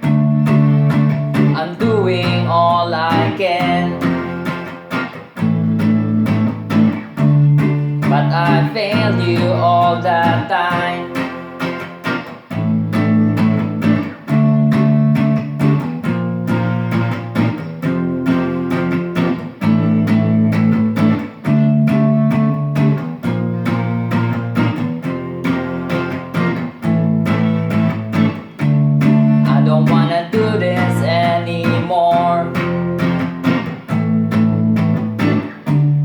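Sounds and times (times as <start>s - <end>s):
guitar chords over a beat: 0.0s - 36.0s.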